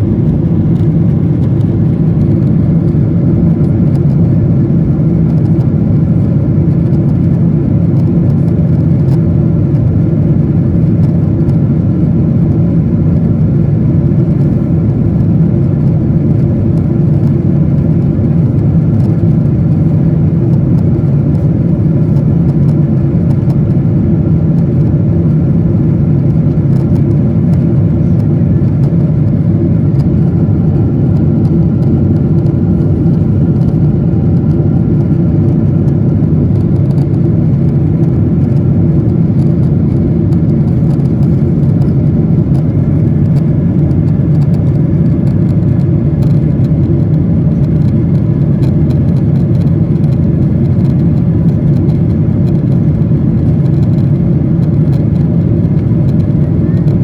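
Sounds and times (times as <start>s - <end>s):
aircraft engine drone: 0.0s - 57.0s.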